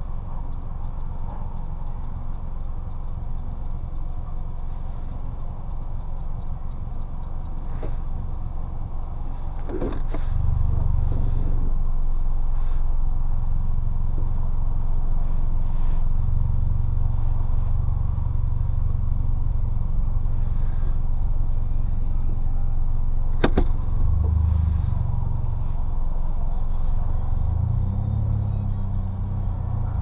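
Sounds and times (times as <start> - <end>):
car engine low rumble: 0.0 - 30.0.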